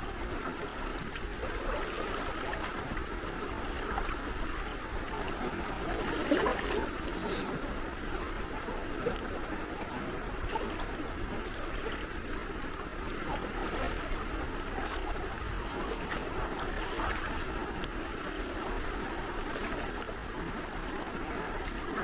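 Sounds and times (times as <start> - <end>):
sea waves lapping at shore: 0.0 - 22.0.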